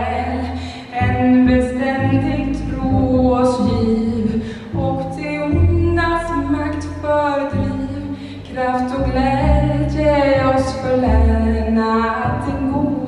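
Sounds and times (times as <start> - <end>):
strings holding low notes: 0.0 - 13.0
woman singing: 0.0 - 13.0.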